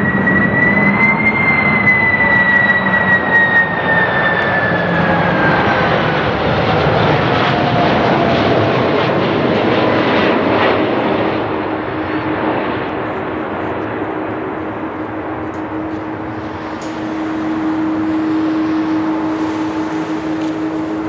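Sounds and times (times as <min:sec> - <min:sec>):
jet aircraft engines rushing: 0:00.0 - 0:21.0
jet engine whine: 0:00.0 - 0:21.0.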